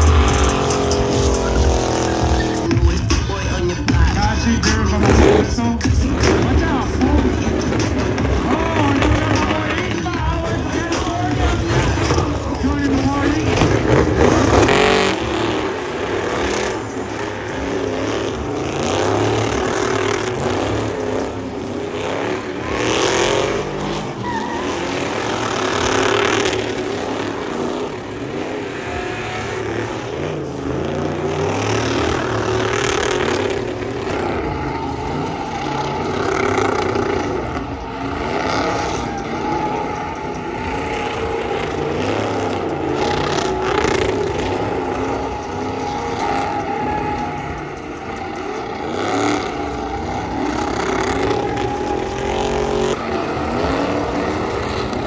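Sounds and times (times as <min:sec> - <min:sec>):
tire squeal: 0:00.0 - 0:55.0
truck engines revving: 0:00.0 - 0:55.0.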